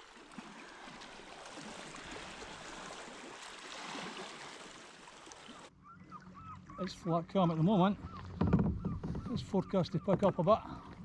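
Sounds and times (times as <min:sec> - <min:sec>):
paddle splashing water: 0:00.0 - 0:11.0.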